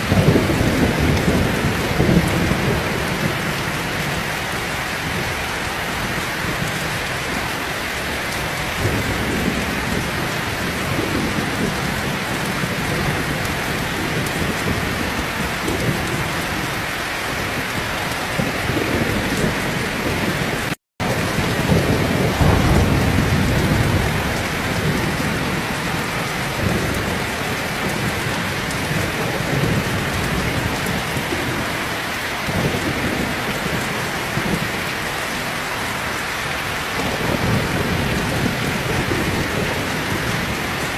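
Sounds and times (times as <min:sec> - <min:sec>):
rolling thunder: 0:00.0 - 0:31.8, 0:36.9 - 0:40.9
heavy rain pouring: 0:00.0 - 0:40.9.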